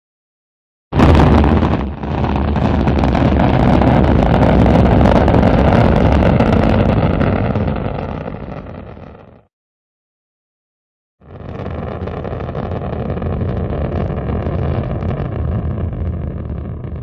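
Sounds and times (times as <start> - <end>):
rocket engine rumbling: 1.0 - 9.4, 11.2 - 17.0.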